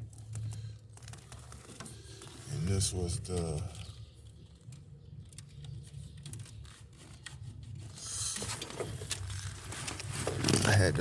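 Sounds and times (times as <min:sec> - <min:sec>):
handling clicks and rustling: 0:00.0 - 0:11.0.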